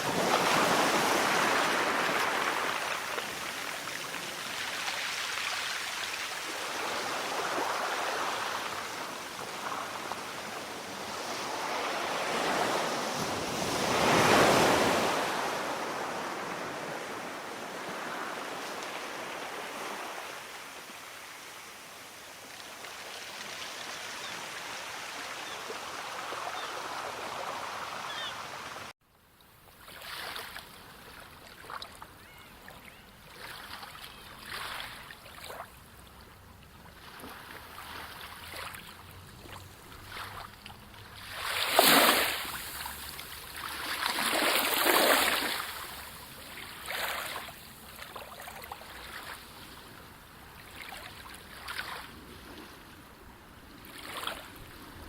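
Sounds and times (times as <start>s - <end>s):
rushing sea water: 0.0s - 28.9s, 29.8s - 55.0s
small waves lapping: 0.0s - 28.9s, 29.7s - 55.0s
waves breaking and surging: 0.0s - 29.0s, 36.9s - 55.0s.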